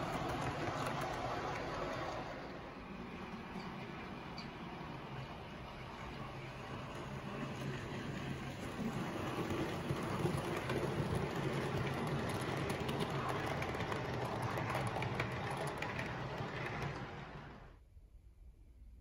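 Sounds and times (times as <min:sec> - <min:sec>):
model train running on track: 0:00.0 - 0:17.8.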